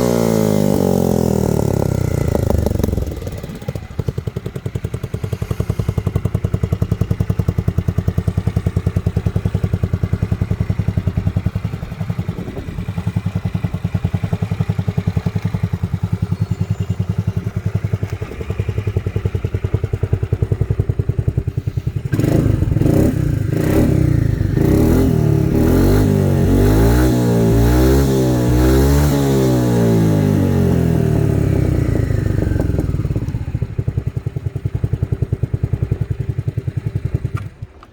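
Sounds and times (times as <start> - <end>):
scooter engine idling and revving: 0.0 - 37.9.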